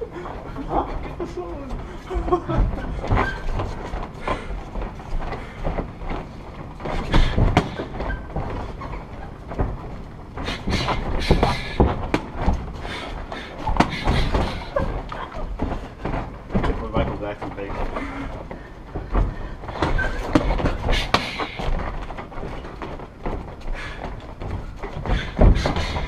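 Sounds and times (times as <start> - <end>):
gloves and shin guards smacking: 2.5 - 16.7, 18.4 - 26.0.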